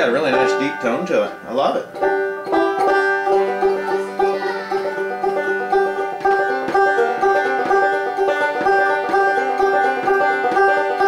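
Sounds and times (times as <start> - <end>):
banjo picking: 0.0 - 11.0.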